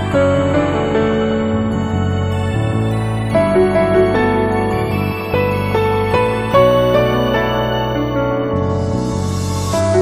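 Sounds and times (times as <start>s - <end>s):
slow melody over sustained chords: 0.0s - 10.0s.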